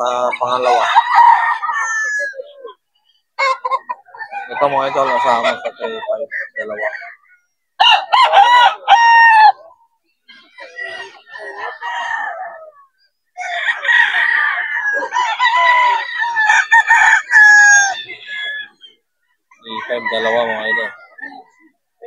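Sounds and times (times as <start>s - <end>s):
roosters crowing: 0.0s - 22.0s.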